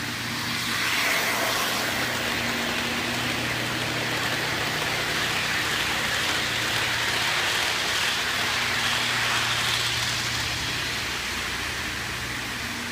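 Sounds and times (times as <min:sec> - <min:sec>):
model train wheels rattling: 0:00.0 - 0:12.2.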